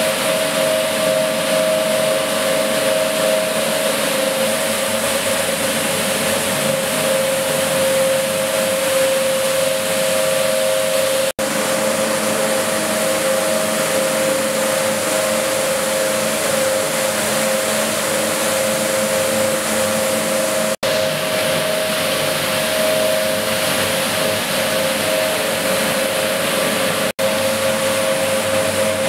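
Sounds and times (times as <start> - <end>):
carpet washing machine humming: 0.0 - 29.0.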